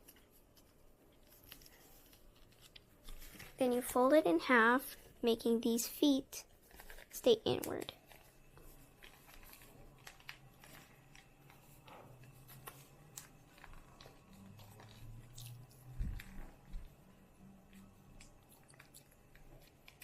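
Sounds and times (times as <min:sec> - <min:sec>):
paper crinkling while folded: 0:00.0 - 0:20.0.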